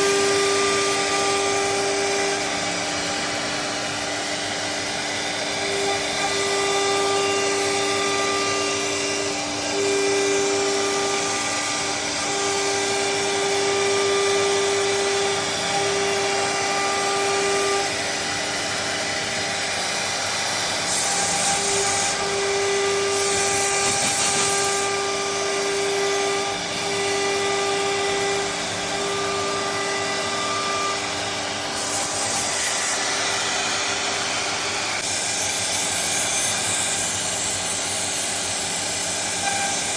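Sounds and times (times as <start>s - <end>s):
cnc router machine whine: 0.0s - 39.9s
higher cutter tone: 0.0s - 39.9s.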